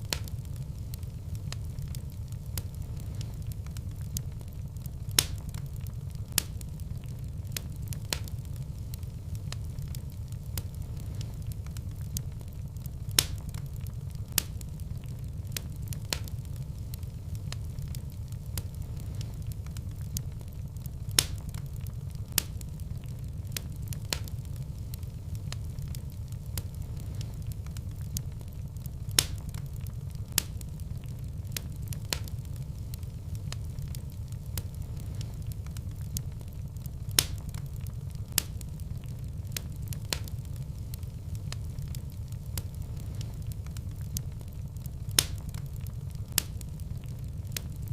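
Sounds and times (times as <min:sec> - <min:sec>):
fireplace fire crackling: 0:00.0 - 0:47.9
sharp pops of fire: 0:00.0 - 0:47.9.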